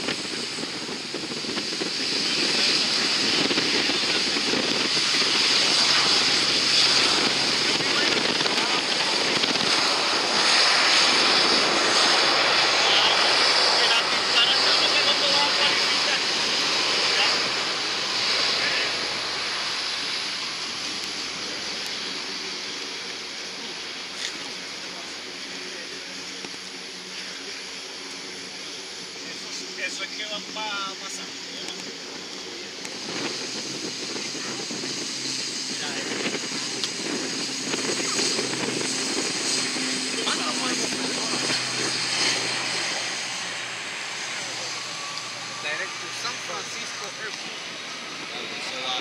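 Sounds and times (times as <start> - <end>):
turboprop engines roaring: 0.0 - 49.0.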